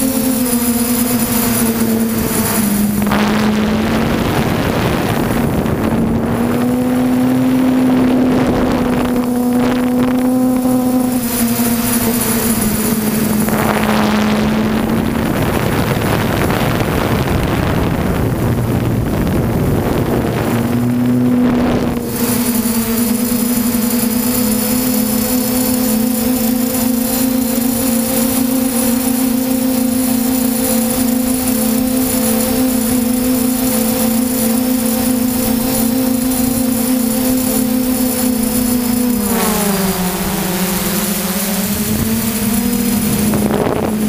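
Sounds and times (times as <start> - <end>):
drone propellers humming: 0.0 - 44.0.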